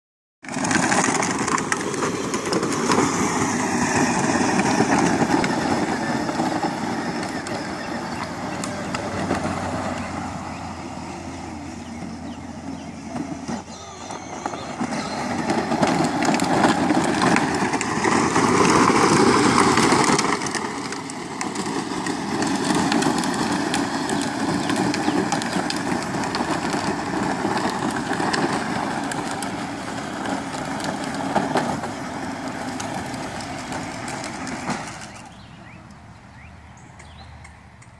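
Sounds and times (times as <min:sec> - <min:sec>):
plastic wheels rumbling on asphalt: 0:00.4 - 0:37.9
electric motors whirring: 0:00.7 - 0:35.4.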